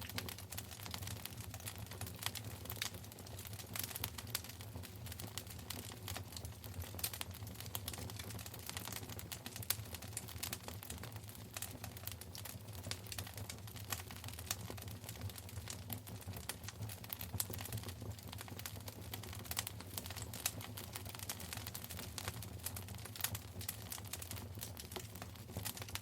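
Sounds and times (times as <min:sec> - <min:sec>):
low rumble of burning fire: 0:00.0 - 0:26.0
wood fire crackling and popping: 0:00.0 - 0:26.0.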